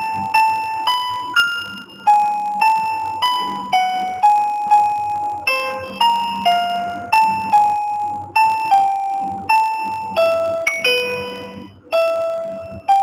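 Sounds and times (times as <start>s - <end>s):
slow piano-like melody: 0.0s - 13.0s.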